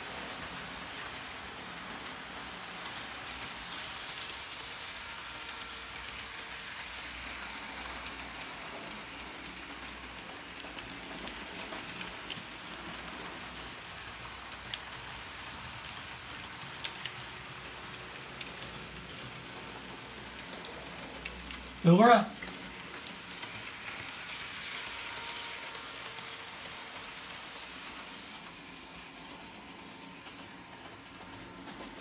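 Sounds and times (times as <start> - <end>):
model train wheels hissing: 0.0 - 32.0.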